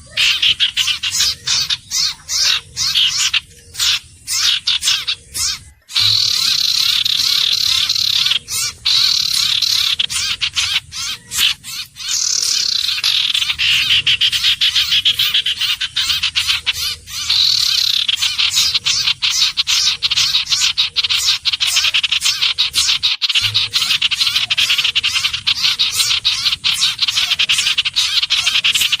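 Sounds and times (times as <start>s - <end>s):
bird chattering calls: 0.0s - 29.0s.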